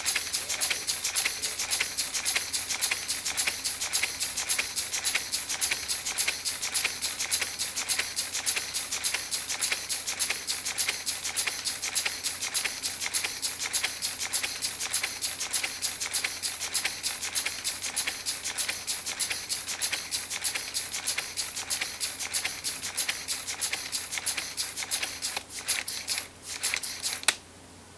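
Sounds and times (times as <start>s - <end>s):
pneumatic cylinders puffing air: 0.0s - 27.4s.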